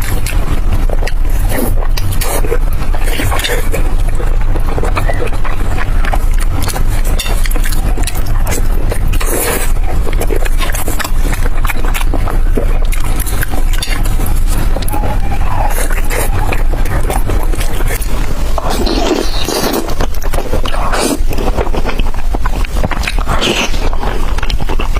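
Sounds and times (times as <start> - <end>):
food being chewed: 0.0 - 24.9
low rumble: 0.0 - 24.9.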